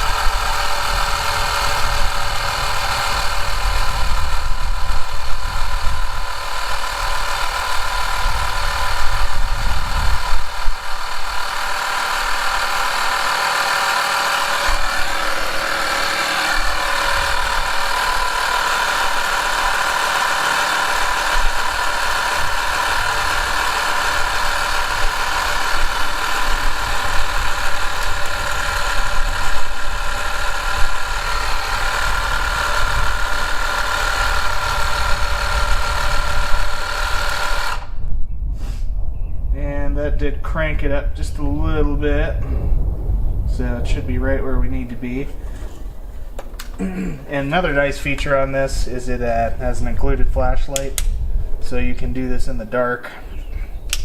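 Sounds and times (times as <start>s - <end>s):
tire inflator compressor pumping: 0.0s - 38.9s, 44.7s - 54.0s.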